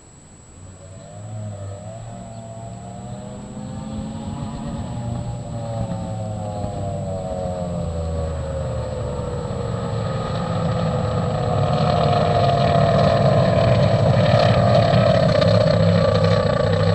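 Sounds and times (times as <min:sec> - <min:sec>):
boat engine running: 0:00.0 - 0:16.9.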